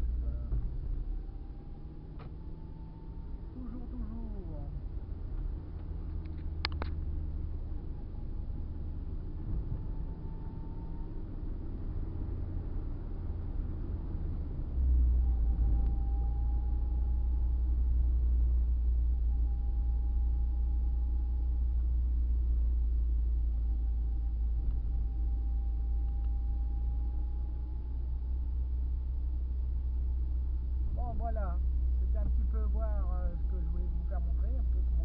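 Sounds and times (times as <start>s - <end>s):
car engine and road rumble: 0.0s - 35.0s
faint whine: 0.0s - 35.0s.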